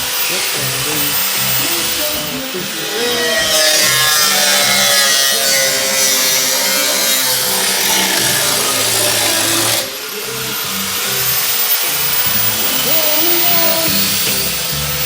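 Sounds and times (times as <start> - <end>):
power tool cutting sheet metal: 0.0 - 15.0.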